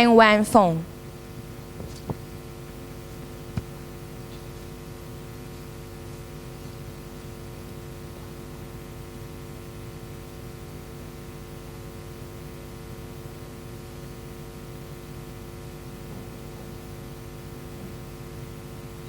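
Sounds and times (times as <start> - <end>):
electrical hum with hiss: 0.0 - 19.0.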